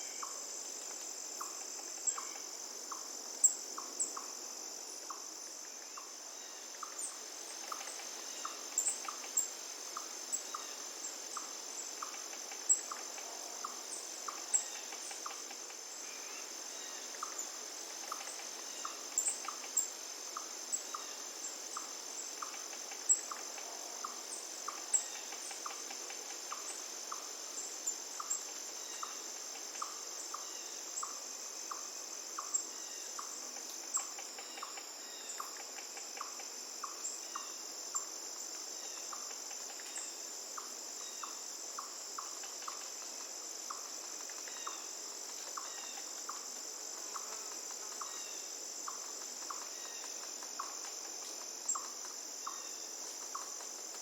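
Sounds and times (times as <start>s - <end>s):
high insect trill: 0.0s - 54.0s.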